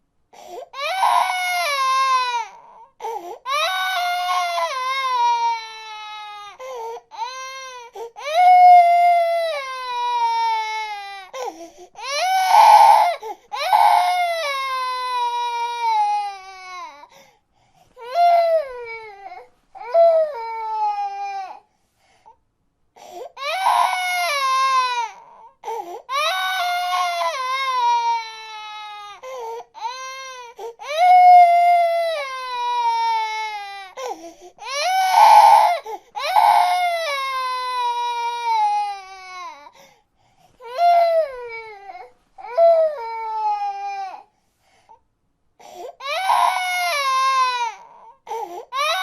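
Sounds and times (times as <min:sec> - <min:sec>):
baby crying: 0:00.7 - 0:17.2, 0:18.0 - 0:21.6, 0:23.2 - 0:39.8, 0:40.6 - 0:44.3, 0:45.6 - 0:49.0.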